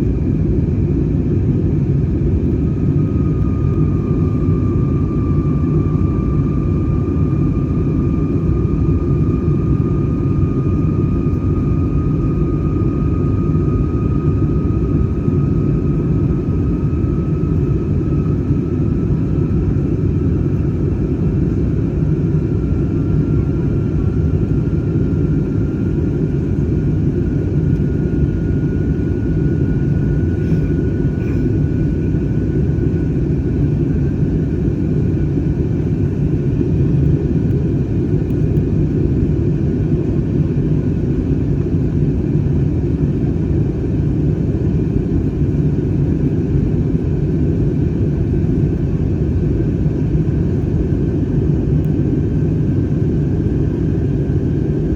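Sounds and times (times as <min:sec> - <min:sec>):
faint engine whine: 0:00.0 - 0:54.9
jet engine and airflow rumble: 0:00.0 - 0:54.9.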